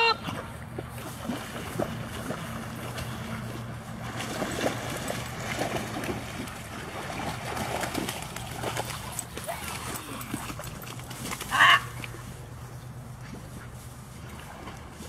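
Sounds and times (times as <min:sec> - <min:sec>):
dogs splashing in water: 0:00.0 - 0:15.0.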